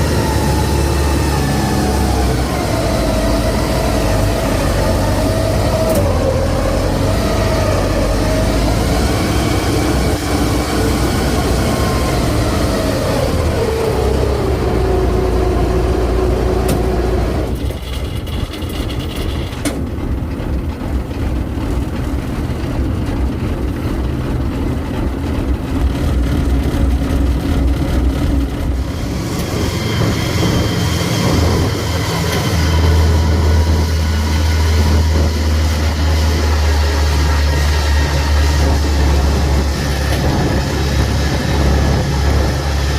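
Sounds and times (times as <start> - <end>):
farm machinery engine running: 0.0 - 42.9
strong low hum: 0.0 - 42.9.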